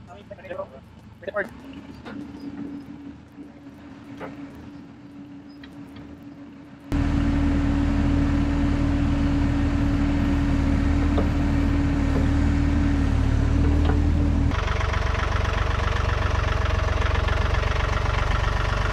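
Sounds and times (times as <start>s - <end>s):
machine engine humming: 0.0s - 18.9s.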